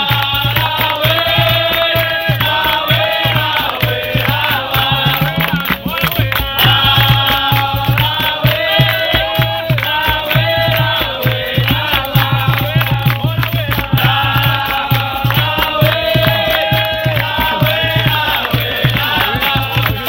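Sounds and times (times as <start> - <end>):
fast hand drum beat: 0.0 - 20.0
group of voices singing: 0.0 - 20.0.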